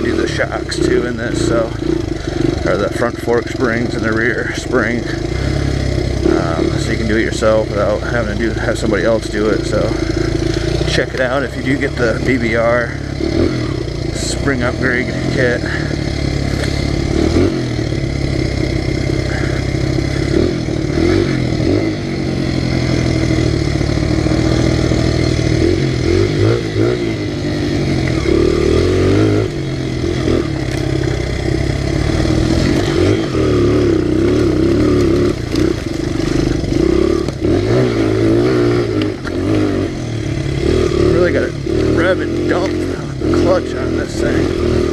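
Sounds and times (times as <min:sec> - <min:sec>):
motorbike engine revving: 0:00.0 - 0:44.9.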